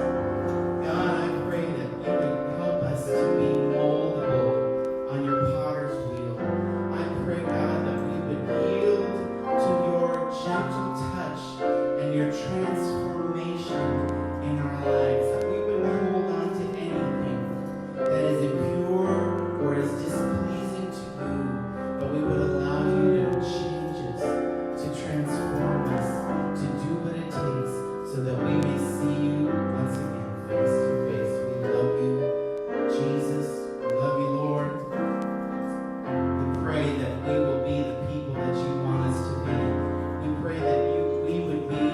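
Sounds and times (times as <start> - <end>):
worship music on piano and keyboard: 0.0 - 41.9.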